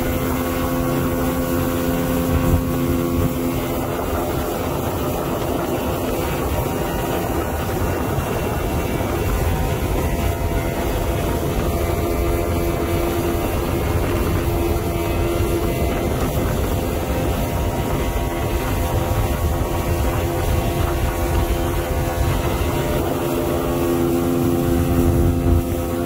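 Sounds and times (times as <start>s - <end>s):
outboard motor droning: 0.0s - 26.0s
water rushing in wake: 0.0s - 26.0s.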